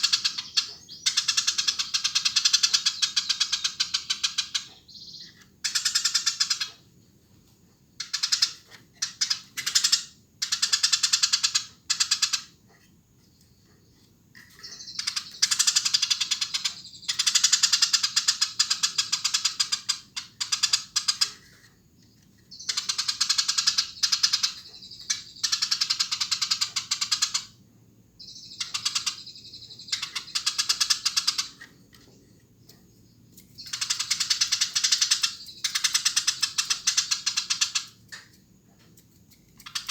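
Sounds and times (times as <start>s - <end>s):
sparrow chirping: 0.0s - 6.8s, 8.0s - 12.6s, 13.3s - 38.4s, 39.0s - 39.9s.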